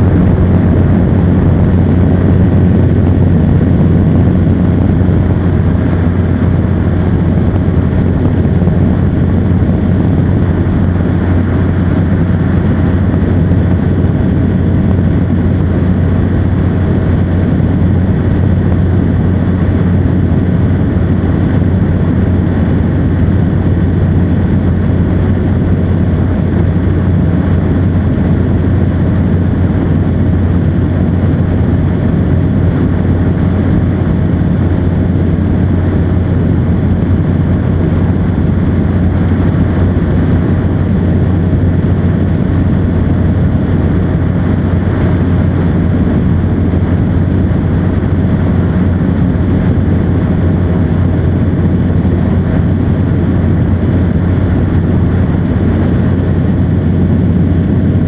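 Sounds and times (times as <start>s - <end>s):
aircraft engine and propeller drone: 0.0s - 58.0s
wind rushing over microphone: 0.0s - 58.0s.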